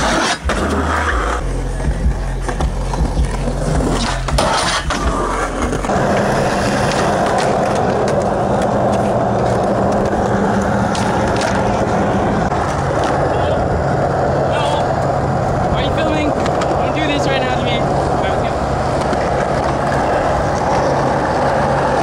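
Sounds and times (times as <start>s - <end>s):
skateboard clacks: 0.0s - 14.2s, 14.8s - 22.0s
skateboard wheels rolling on concrete: 0.0s - 22.0s.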